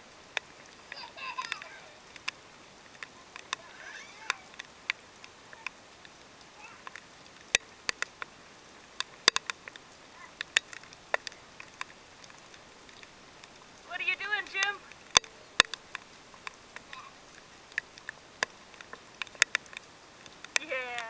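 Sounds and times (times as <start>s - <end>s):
light rain hiss: 0.0s - 21.0s
raindrops ticking near microphone: 0.0s - 21.0s.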